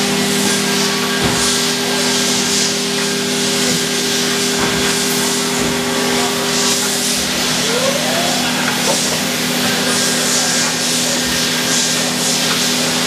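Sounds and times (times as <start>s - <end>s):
machining center humming: 0.0s - 13.0s.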